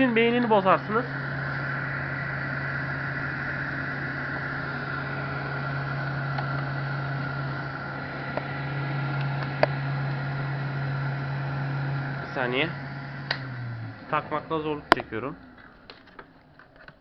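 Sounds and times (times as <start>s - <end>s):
cleaning machine motor hum: 0.0s - 16.4s.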